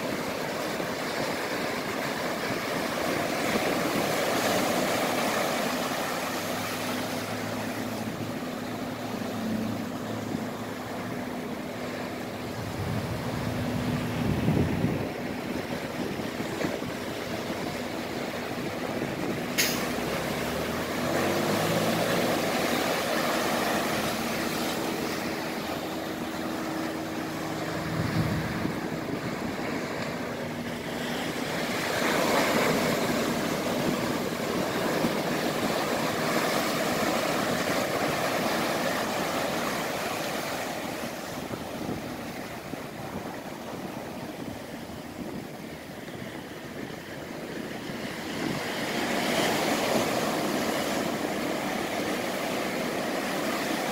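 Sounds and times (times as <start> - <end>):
low engine hum: 0.0 - 53.9
ocean surf breaking over rocks: 0.0 - 53.9.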